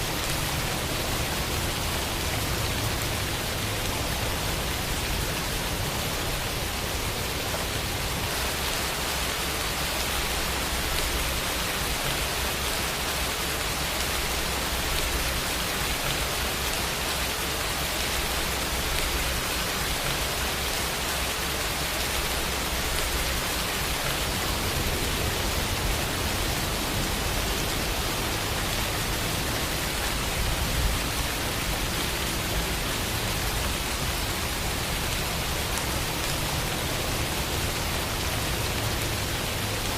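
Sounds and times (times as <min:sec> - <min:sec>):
louder raindrop patter: 0:00.0 - 0:39.9
steady rain falling: 0:00.0 - 0:39.9.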